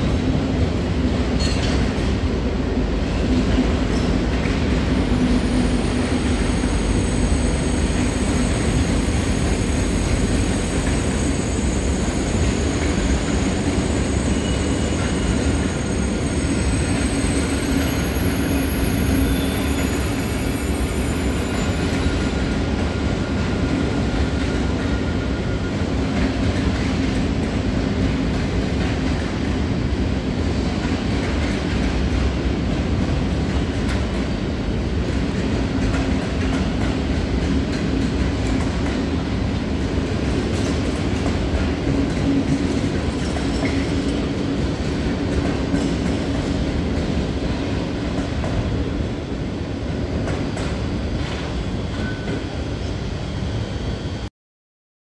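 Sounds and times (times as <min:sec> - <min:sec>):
freight train wheels rumbling on rails: 0:00.0 - 0:54.3.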